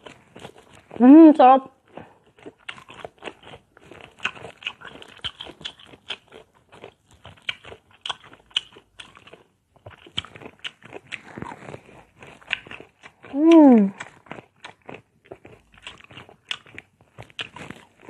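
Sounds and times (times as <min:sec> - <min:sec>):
crunching and chewing fruit: 0:00.0 - 0:18.0.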